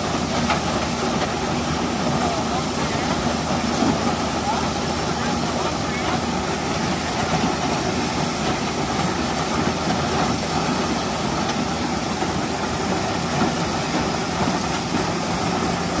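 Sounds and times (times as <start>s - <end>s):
corn sheller running: 0.0s - 16.0s
steam traction engine: 0.0s - 16.0s.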